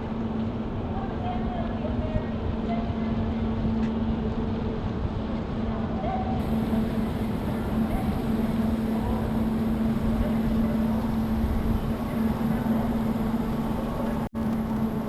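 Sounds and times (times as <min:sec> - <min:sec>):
distant machinery hum: 0:00.0 - 0:15.0
wind buffeting microphone: 0:00.0 - 0:15.0.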